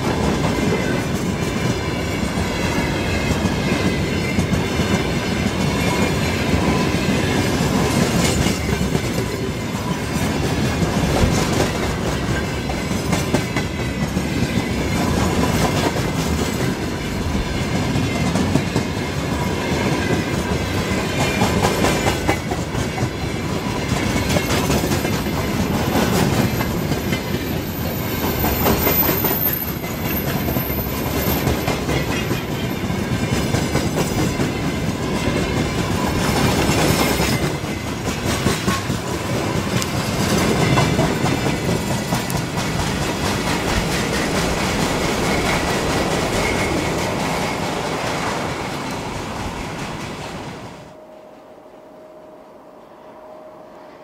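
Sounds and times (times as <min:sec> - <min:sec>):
wheels clacking over rail joints: 0:00.0 - 0:50.6
train wheels rumbling on rails: 0:00.0 - 0:51.0.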